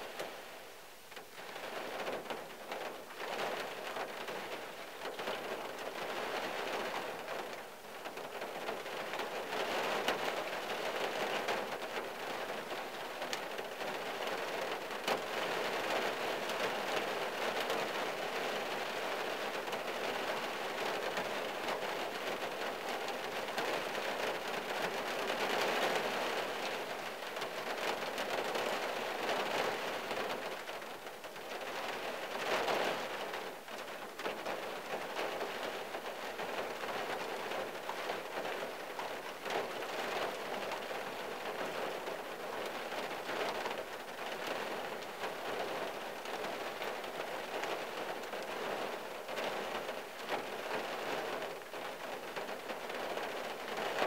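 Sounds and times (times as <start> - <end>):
rain pattering on a car: 0.0 - 54.0.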